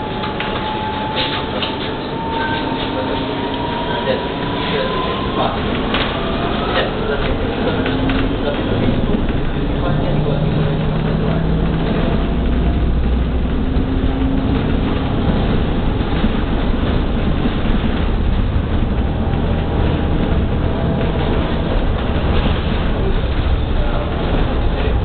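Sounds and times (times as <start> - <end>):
trolleybus ride rumble: 0.0 - 25.0.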